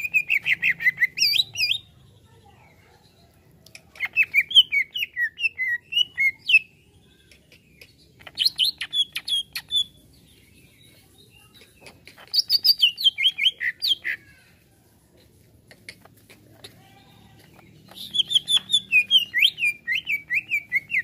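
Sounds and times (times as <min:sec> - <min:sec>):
bird chirping: 0:00.0 - 0:14.4, 0:15.7 - 0:21.0.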